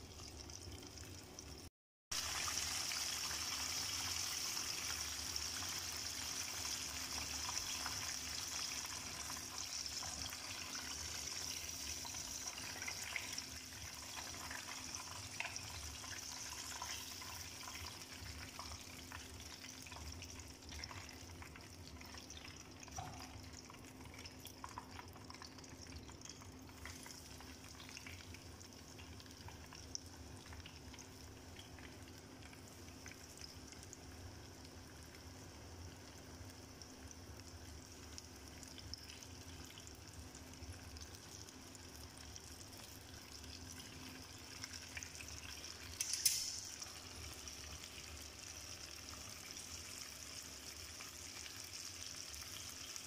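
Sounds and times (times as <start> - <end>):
chicken deep-frying in oil: 0.0 - 53.0.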